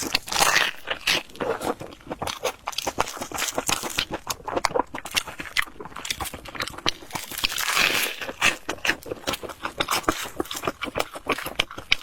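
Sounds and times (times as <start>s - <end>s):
chewing crispy fried bread: 0.0s - 12.0s.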